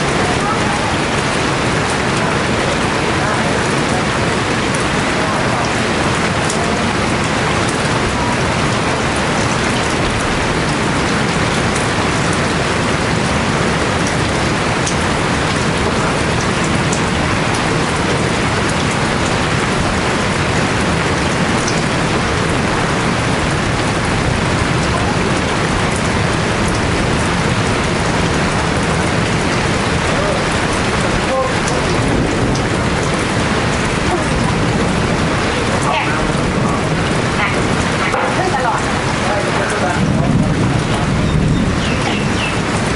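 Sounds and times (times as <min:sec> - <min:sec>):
heavy rainfall hiss: 0:00.0 - 0:42.9.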